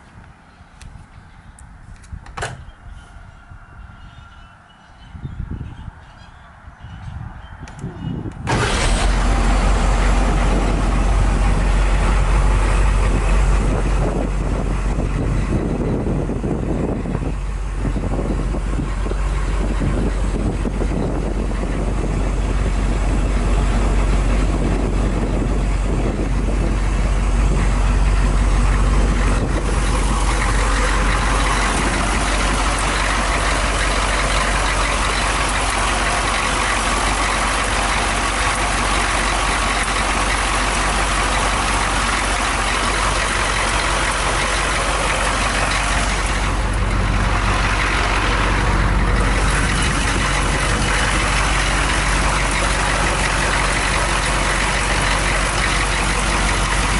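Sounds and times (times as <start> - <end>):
diesel engine idling: 8.2 - 56.9.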